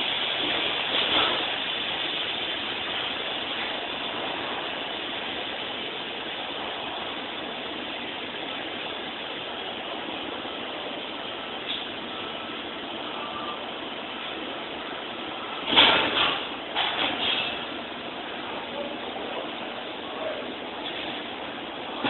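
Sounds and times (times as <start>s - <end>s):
welding arc hissing: 0.0s - 18.4s.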